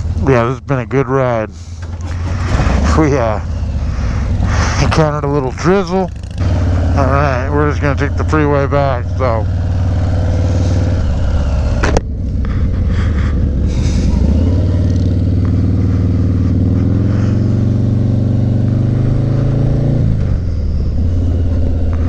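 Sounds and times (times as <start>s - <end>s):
motorcycle engine accelerating: 0.0s - 0.6s, 1.4s - 22.0s.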